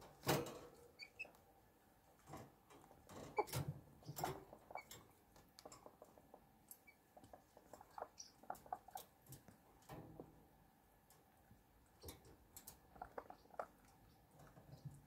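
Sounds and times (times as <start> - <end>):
chickens pecking and scratching: 2.1 - 10.5, 11.2 - 15.0.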